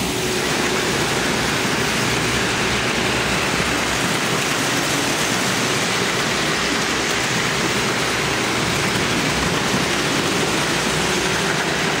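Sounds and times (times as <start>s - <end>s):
toy trains running on metal track: 0.0s - 12.0s.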